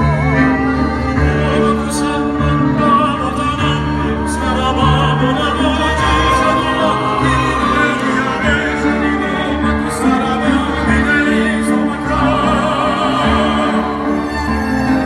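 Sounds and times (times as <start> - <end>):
orchestral accompaniment: 0.0 - 15.0
person singing long notes: 0.0 - 15.0.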